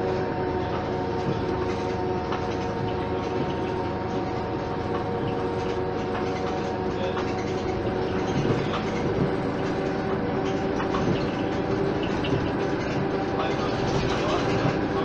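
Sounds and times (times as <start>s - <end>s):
bus engine hum: 0.0s - 15.0s
road rumble: 0.0s - 15.0s.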